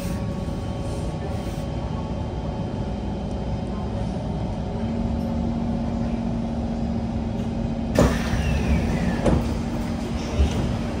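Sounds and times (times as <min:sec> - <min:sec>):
train cabin hum: 0:00.0 - 0:11.0.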